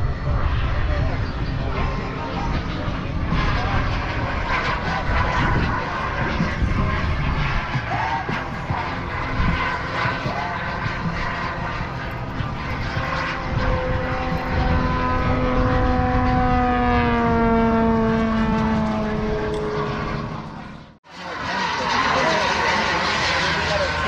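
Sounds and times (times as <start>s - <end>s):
wind rumble on microphone: 0.0s - 21.0s
propeller aircraft engine droning: 0.0s - 24.0s.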